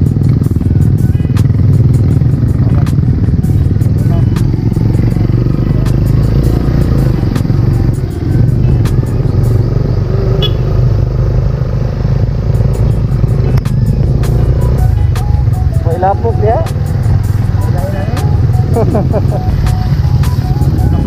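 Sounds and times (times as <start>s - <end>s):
motorcycle rumble: 0.0s - 21.0s.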